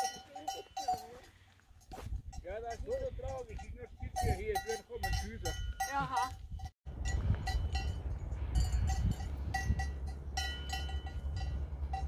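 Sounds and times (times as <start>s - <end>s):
sheep bells clinking: 0.0s - 12.0s
wind rumble on microphone: 1.9s - 12.0s.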